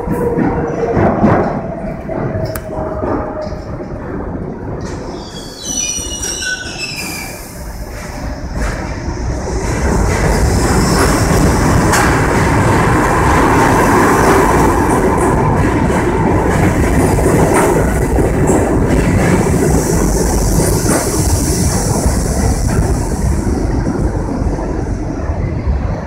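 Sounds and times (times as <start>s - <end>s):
subway train wheels on rails: 0.0s - 26.0s.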